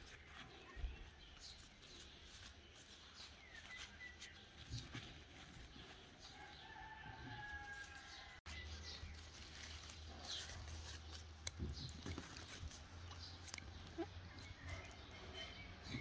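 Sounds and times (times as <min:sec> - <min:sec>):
leaves rustling: 0:00.0 - 0:14.7.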